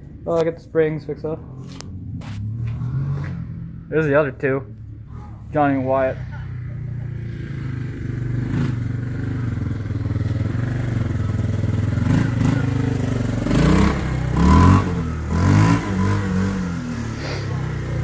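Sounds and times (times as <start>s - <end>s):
atv engine running and revving: 1.3s - 18.0s.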